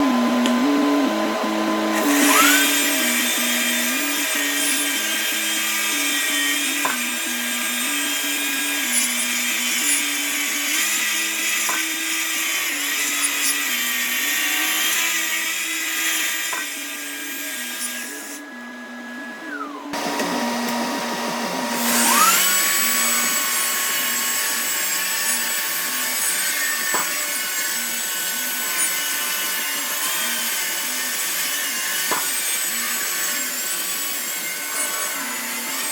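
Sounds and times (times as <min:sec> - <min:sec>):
grinder whining: 0:00.0 - 0:35.9.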